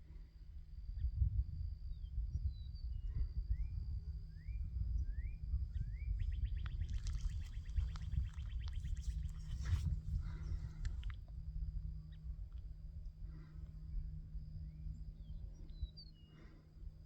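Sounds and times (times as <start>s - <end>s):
strong low rumble: 0.7s - 17.0s.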